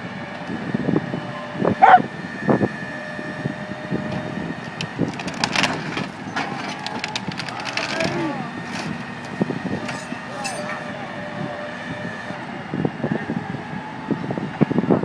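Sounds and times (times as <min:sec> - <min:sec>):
hum of vehicles: 0:00.0 - 0:15.0.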